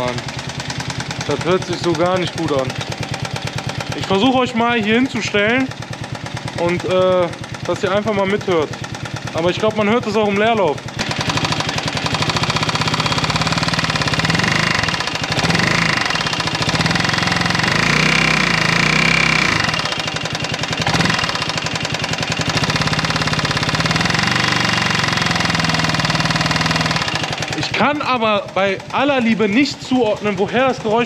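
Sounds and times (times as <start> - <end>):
rapid hard clacking: 0.0 - 31.0
scooter engine running: 0.0 - 31.0.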